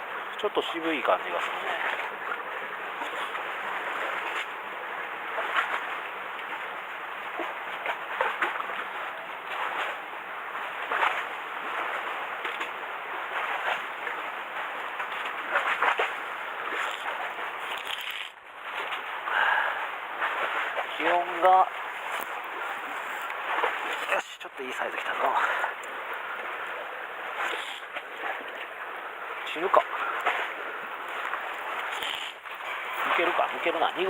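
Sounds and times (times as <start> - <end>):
sea water lapping: 0.0 - 34.0.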